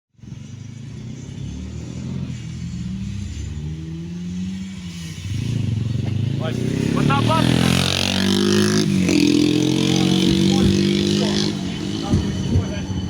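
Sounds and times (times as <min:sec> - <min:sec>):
tram traction motor whining: 0:00.2 - 0:13.0
tram running rumble: 0:00.9 - 0:13.0.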